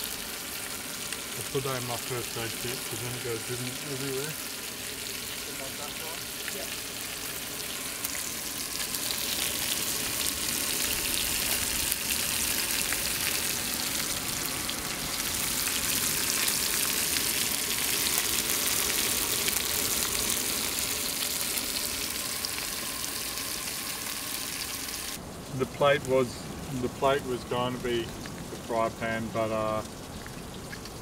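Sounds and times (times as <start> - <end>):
fish sizzling in a pan: 0.0 - 26.3.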